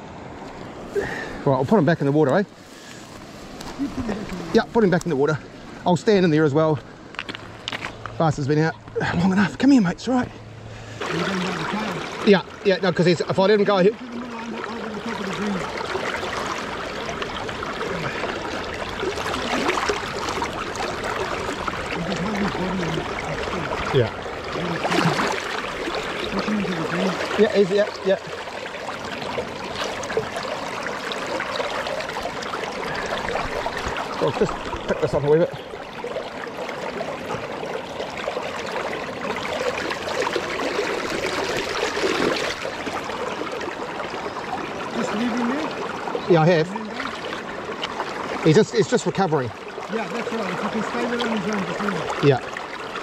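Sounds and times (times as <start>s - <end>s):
river water rushing: 0.0s - 53.0s.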